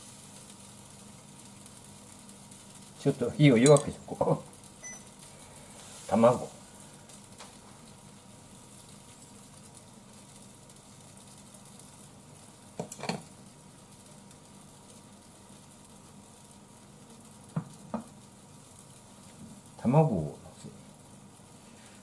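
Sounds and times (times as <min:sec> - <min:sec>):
cabbage sizzling in a frying pan: 0:00.0 - 0:22.0.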